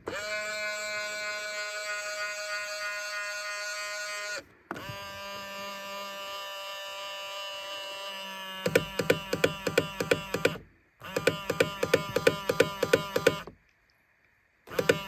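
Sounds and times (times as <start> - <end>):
mirror motor whining: 0.0 - 13.6, 14.7 - 15.0.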